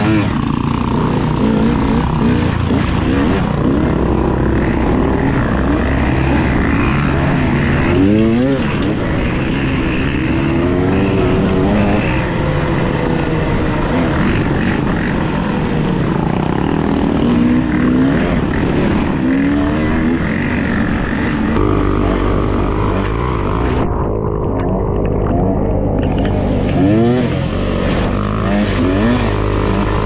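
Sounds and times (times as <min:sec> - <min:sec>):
quad bike engines revving: 0:00.0 - 0:30.0.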